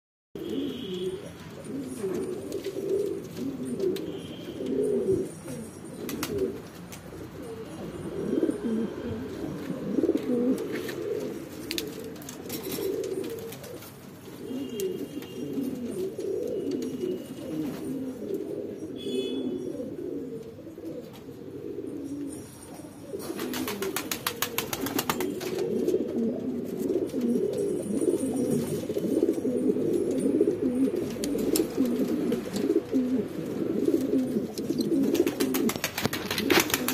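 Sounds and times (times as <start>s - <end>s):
pigeons cooing: 0.4s - 36.9s.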